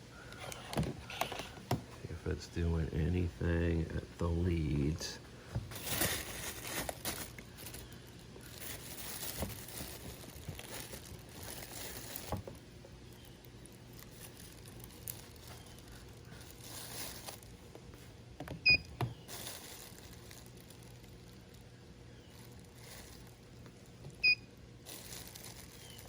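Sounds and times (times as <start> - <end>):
faint low hum: 0.0 - 26.0
handling noises and rustling: 0.2 - 26.0.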